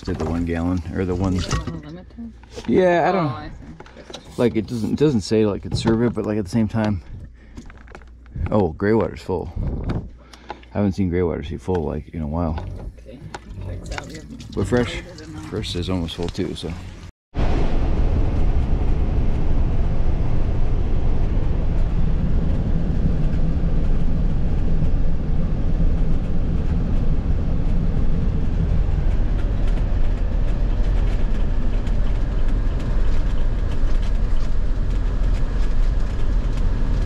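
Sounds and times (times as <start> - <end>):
vehicle engine and road noise: 0.0 - 37.0.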